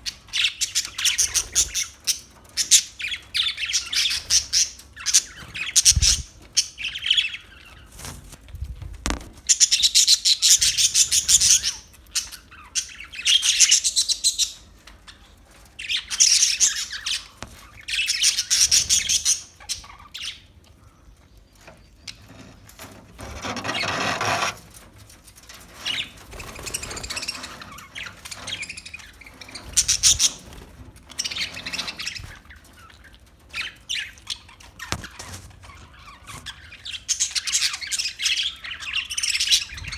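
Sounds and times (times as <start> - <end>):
parakeets chirping: 0.0 - 7.9, 9.1 - 15.2, 15.8 - 20.4, 25.9 - 39.9.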